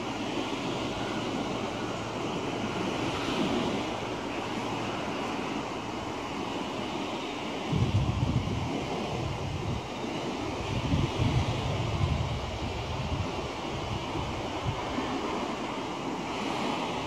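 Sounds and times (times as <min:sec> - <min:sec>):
choppy water washing: 0:00.0 - 0:17.0
wind noise on microphone: 0:00.0 - 0:17.0.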